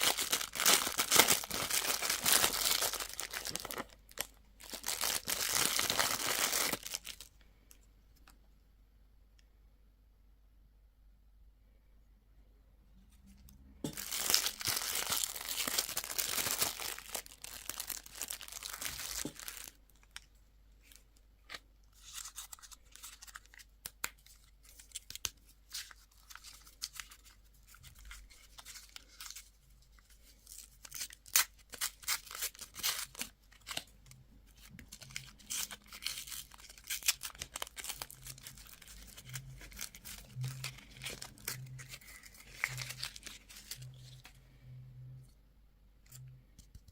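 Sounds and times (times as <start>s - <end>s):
candy wrappers crinkling: 0.0s - 7.8s, 13.9s - 44.4s.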